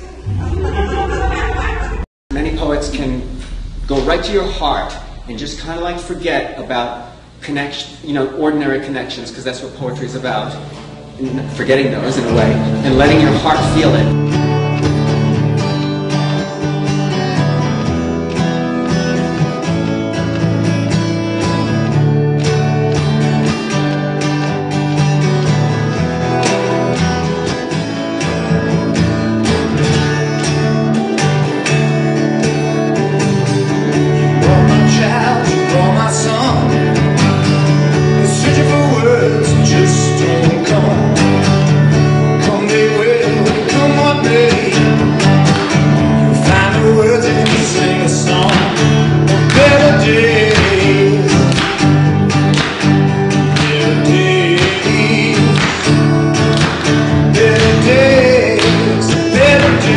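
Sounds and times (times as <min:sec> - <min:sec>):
country acoustic guitar music: 0:10.0 - 0:59.9.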